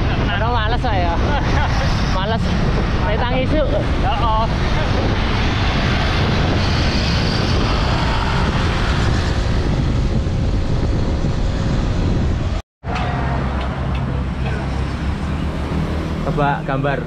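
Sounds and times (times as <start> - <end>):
motorbikes passing: 0.0 - 17.0
road noise: 0.0 - 17.0
wind rushing on microphone: 0.0 - 17.0.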